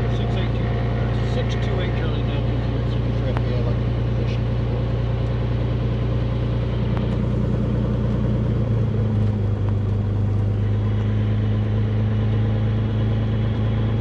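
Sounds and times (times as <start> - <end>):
propeller plane engine idling: 0.0 - 14.0.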